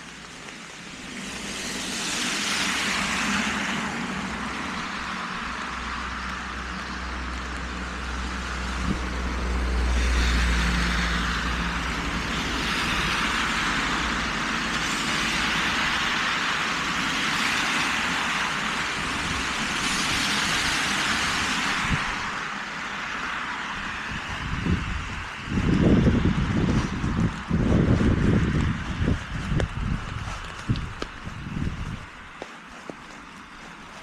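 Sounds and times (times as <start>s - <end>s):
tyres hissing on wet asphalt: 0.0s - 34.0s.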